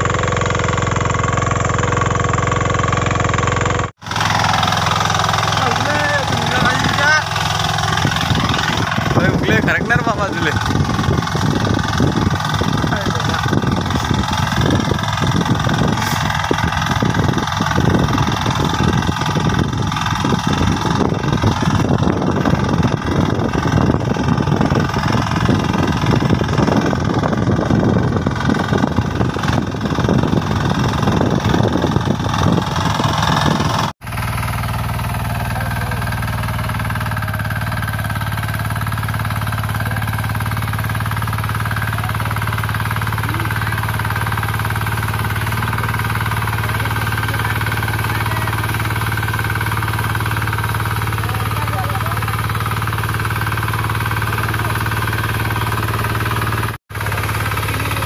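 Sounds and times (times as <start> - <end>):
lower engine hum: 0.0 - 58.0
rough diesel engine running: 0.0 - 58.0.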